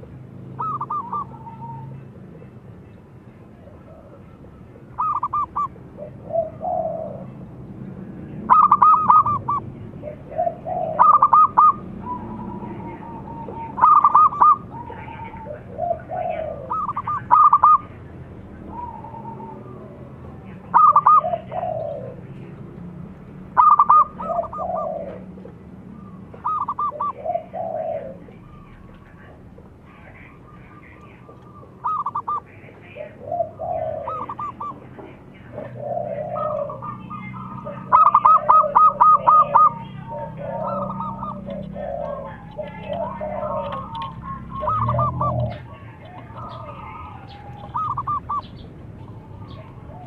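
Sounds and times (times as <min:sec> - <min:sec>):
dove cooing: 0:00.0 - 0:22.8, 0:23.5 - 0:50.0.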